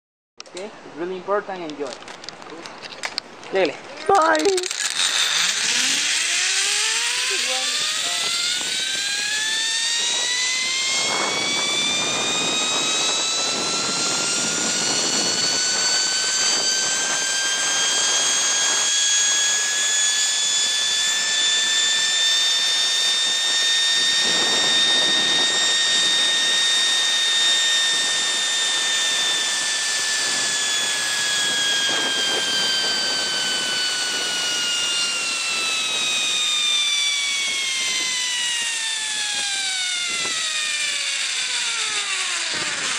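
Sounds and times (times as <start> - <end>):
zip-line pulleys whining on cable: 4.0 - 42.9.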